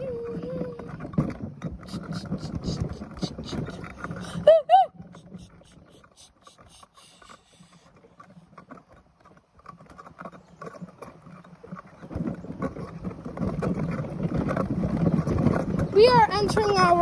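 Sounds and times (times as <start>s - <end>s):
toy wheels rattling over grass: 0.0s - 17.0s.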